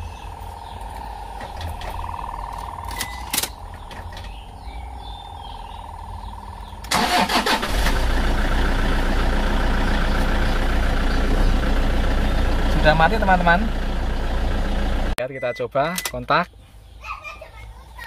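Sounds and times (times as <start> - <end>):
car engine starting and idling: 0.0 - 15.2.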